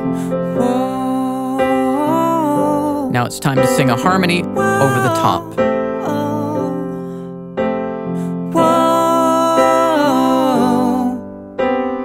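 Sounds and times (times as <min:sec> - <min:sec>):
person singing with harmony: 0:00.0 - 0:07.4, 0:08.0 - 0:11.6
electric piano chords: 0:00.0 - 0:12.0.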